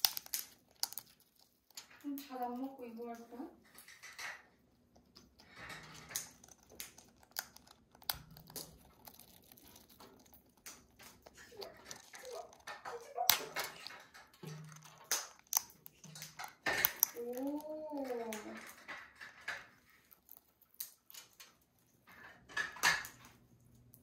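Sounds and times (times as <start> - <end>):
parrot cracking nut shells: 0.0 - 24.0.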